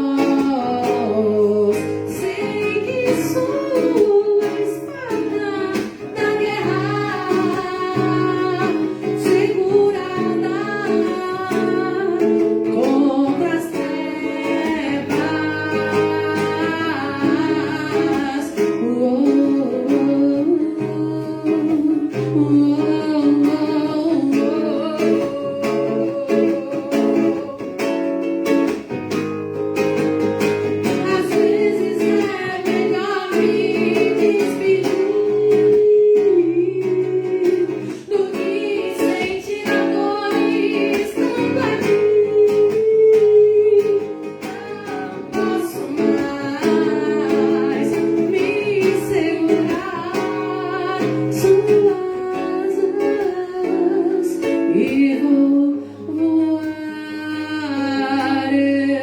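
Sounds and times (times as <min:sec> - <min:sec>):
person singing: 0:00.0 - 0:28.8, 0:30.7 - 0:59.0
acoustic guitar strumming: 0:00.0 - 0:59.0.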